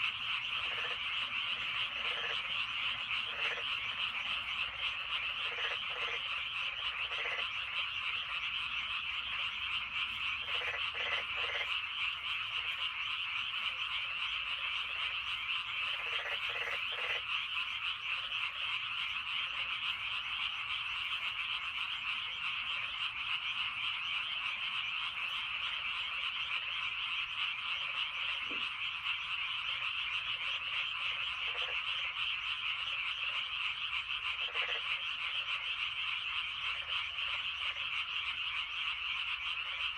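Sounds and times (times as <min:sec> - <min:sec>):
chorus of frogs trilling: 0:00.0 - 0:39.9
lower frog calls: 0:00.0 - 0:39.9.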